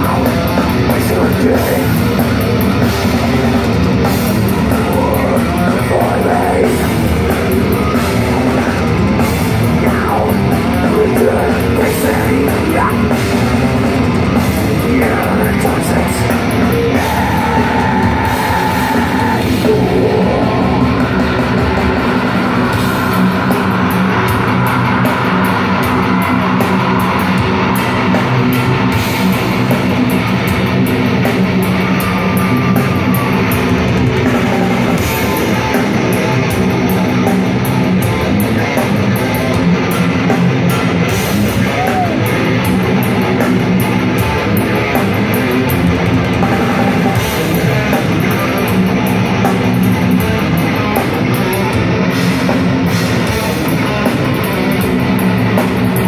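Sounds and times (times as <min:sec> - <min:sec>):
bass guitar: 0:00.0 - 0:56.0
distorted electric guitars: 0:00.0 - 0:56.0
fast drumming with cymbals: 0:00.0 - 0:56.0.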